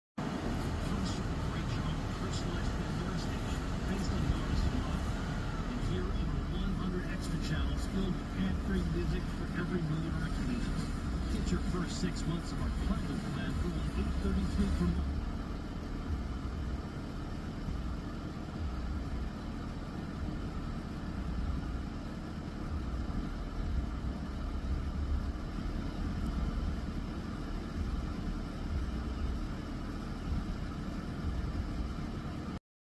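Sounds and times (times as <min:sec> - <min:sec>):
low engine rumble: 0:00.2 - 0:32.6.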